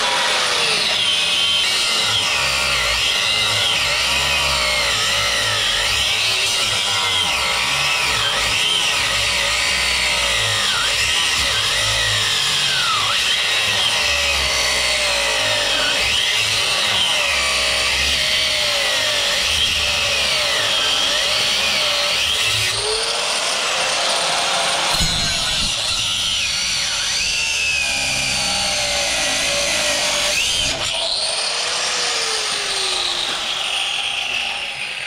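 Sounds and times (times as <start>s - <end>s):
power grinder cutting metal: 0.0s - 35.0s.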